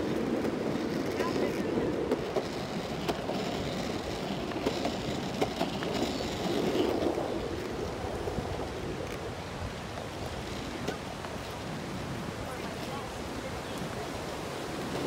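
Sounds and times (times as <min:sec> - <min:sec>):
longboard wheels rolling on asphalt: 0:00.0 - 0:15.0.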